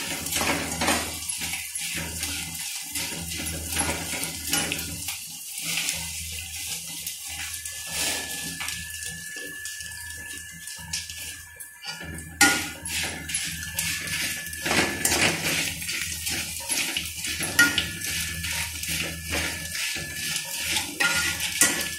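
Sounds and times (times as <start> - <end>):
frying sizzling hiss: 0.0 - 21.9
skimmer scraping metal pan: 0.0 - 21.9.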